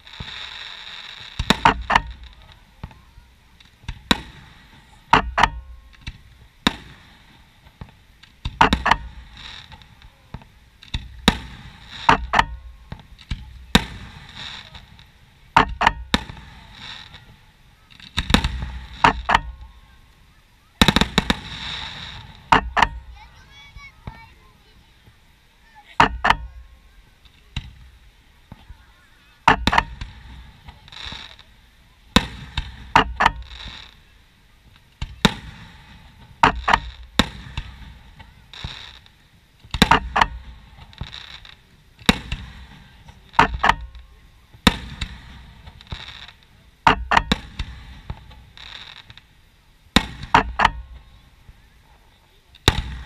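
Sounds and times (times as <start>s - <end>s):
firework bangs with echo: 0.0s - 20.1s, 20.8s - 25.2s, 29.4s - 49.3s, 49.9s - 51.7s, 52.6s - 53.0s.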